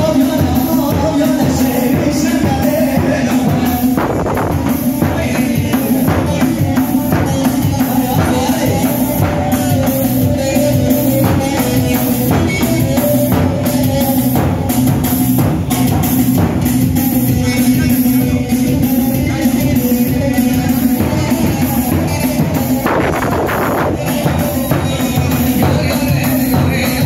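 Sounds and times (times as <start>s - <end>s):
bass drum beating: 0.0s - 27.0s.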